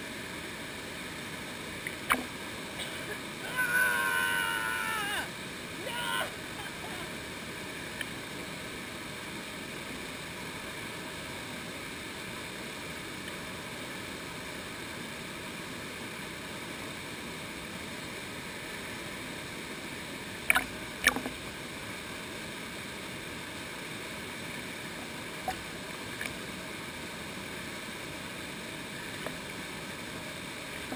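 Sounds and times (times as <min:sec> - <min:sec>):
stream water rushing over rocks: 0:00.0 - 0:30.9.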